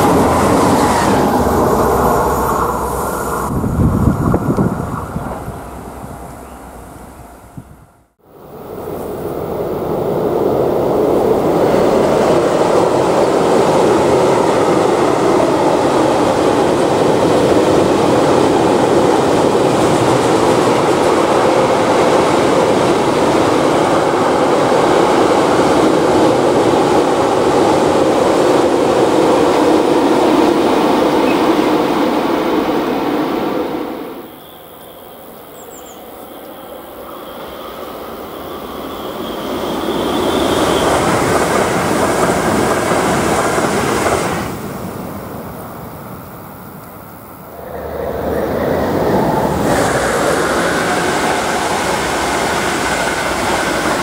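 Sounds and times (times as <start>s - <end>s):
steel wheels rolling on rail: 0.0s - 7.8s, 8.4s - 54.0s
electric train approaching: 0.0s - 54.0s.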